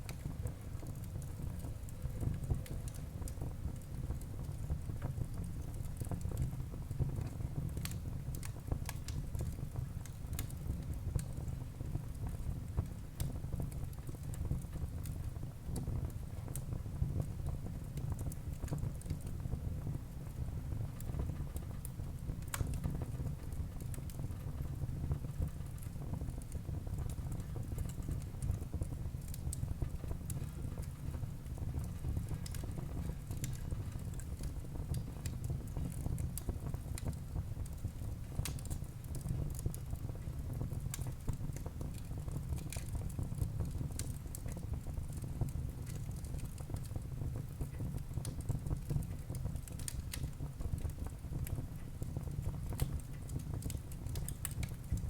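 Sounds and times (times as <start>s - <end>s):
burning wood crackling and popping: 0.1s - 55.0s
flames rumbling: 0.1s - 55.0s.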